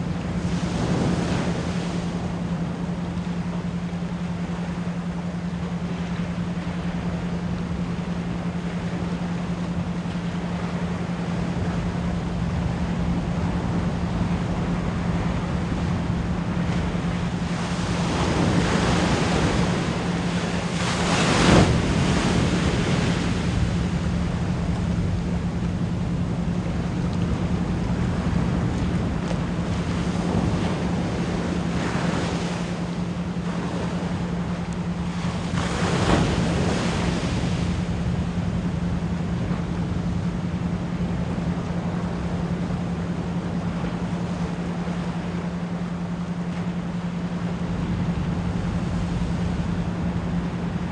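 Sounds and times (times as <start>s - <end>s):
ocean waves washing in: 0.0s - 50.9s.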